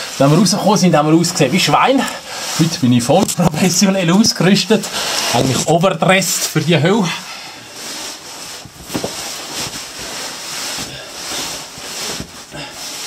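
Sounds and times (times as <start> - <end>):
clothing scraping against rock: 0.0 - 13.0.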